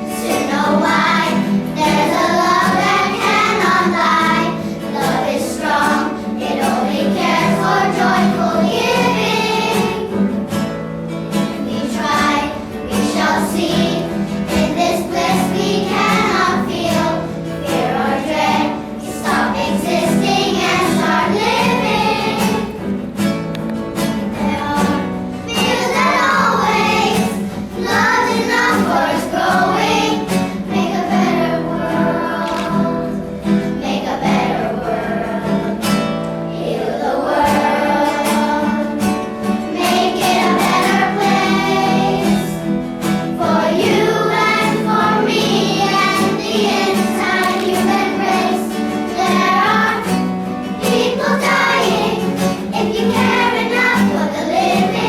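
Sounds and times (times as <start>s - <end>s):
children singing in unison: 0.0s - 55.0s
instrumental accompaniment: 0.0s - 55.0s.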